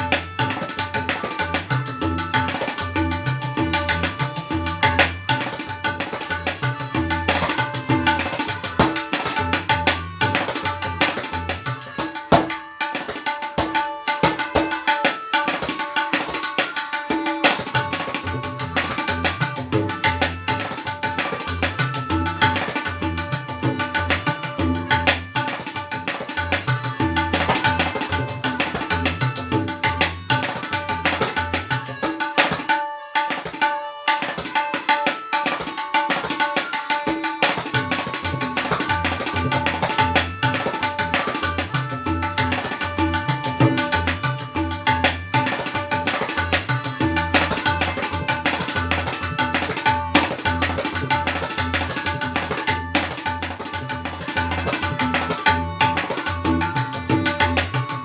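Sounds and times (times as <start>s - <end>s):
tabla strokes: 0.0s - 58.0s.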